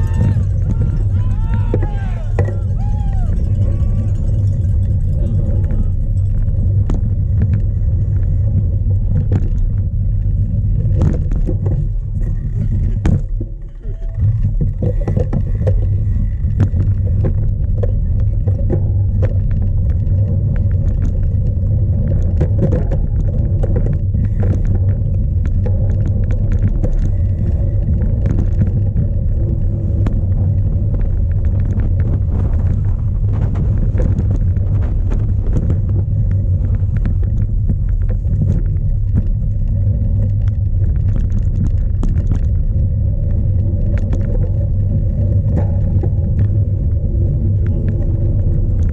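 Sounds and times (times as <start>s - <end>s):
bike rattling and knocking: 0.0s - 48.9s
bike tyres on rough ground: 0.0s - 48.9s
wind rumble: 0.0s - 48.9s.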